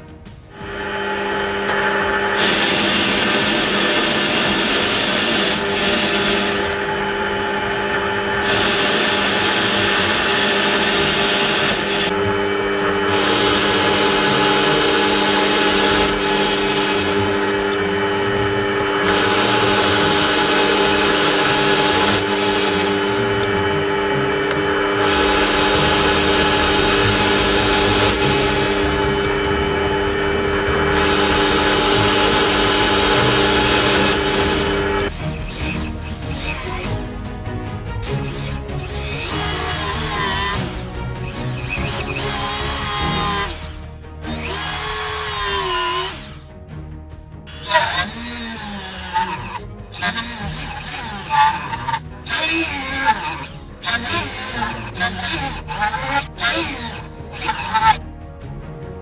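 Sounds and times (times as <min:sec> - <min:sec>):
lathe motor whine: 0:00.2 - 0:46.6, 0:47.5 - 0:58.0
metal cutting hiss: 0:02.2 - 0:37.0, 0:38.0 - 0:43.8, 0:47.5 - 0:58.0.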